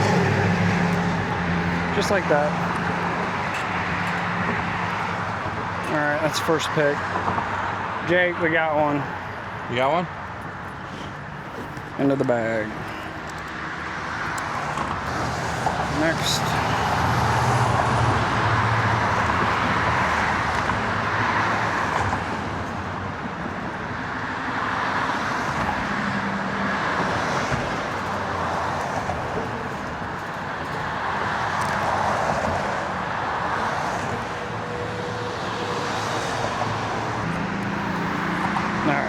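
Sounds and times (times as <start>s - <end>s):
road traffic passing: 0.0s - 39.0s.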